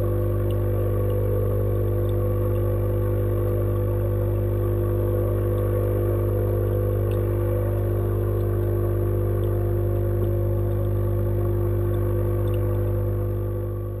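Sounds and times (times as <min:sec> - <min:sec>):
faint ticks: 0:00.0 - 0:13.8
water pump humming underwater: 0:00.0 - 0:14.0.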